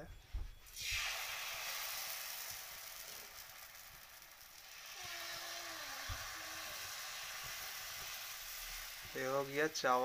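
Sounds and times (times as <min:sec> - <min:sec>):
batter sizzling on hot griddle: 0:00.7 - 0:10.0.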